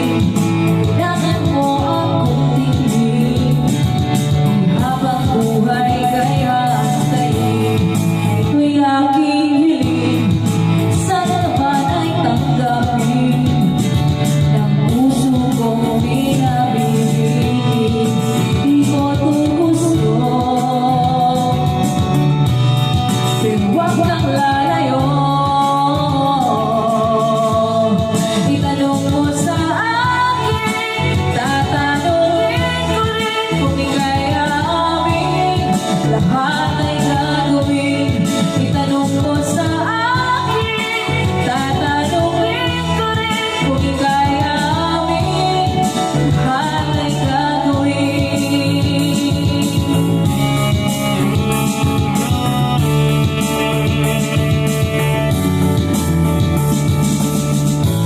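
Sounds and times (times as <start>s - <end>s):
song with singing voice: 0.0s - 58.0s.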